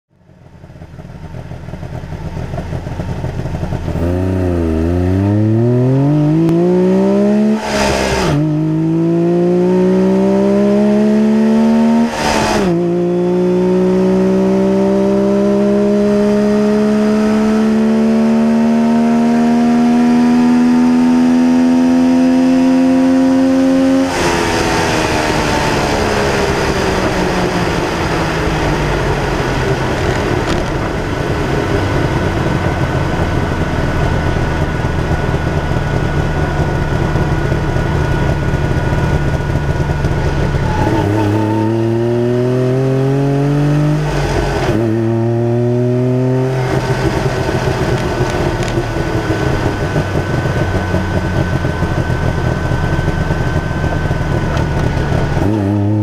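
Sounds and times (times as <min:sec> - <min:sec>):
two-stroke car engine accelerating: 0:00.1 - 0:56.0.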